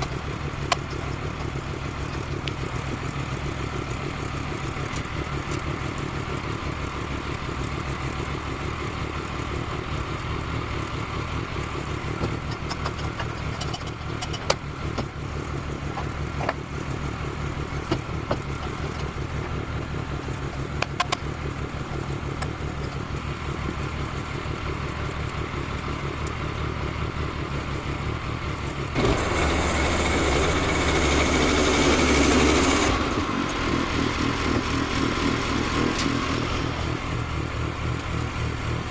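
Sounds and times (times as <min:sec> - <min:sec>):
sawmill gas engine running: 0:00.0 - 0:38.9.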